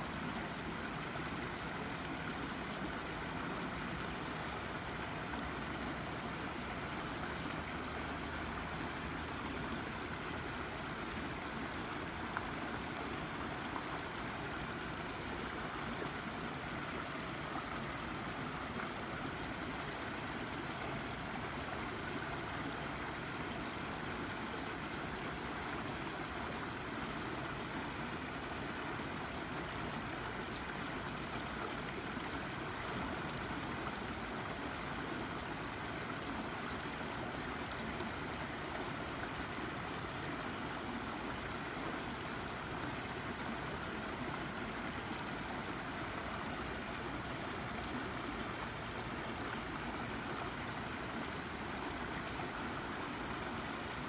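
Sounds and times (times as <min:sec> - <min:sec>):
brook babbling over rock: 0:00.0 - 0:54.0.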